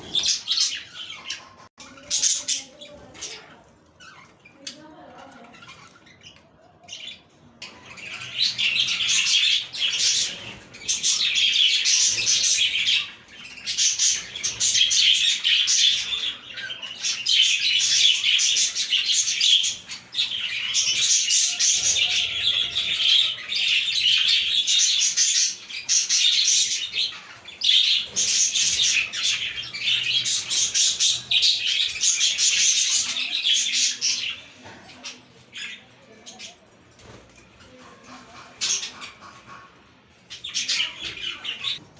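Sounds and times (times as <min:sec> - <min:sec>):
budgerigars chirping and warbling: 0:00.0 - 0:41.9.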